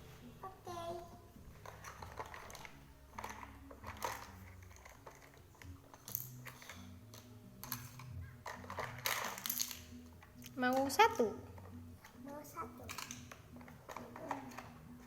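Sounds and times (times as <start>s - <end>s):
plastic toy pieces clicking: 1.6s - 11.0s, 11.6s - 15.0s.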